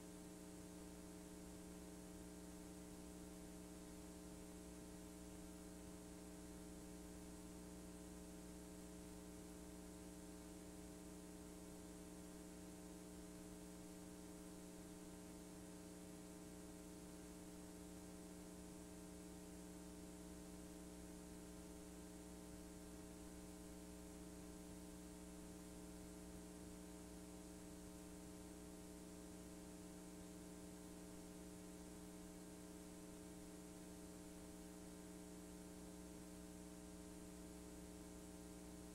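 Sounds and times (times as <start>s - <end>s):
faint electrical hum with hiss: 0.0s - 38.9s.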